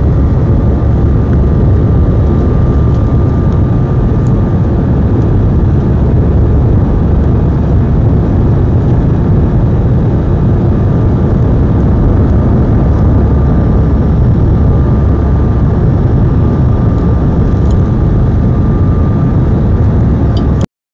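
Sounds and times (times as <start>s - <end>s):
jet engine noise in cabin: 0.0s - 20.7s
thin constant whine: 0.0s - 20.7s.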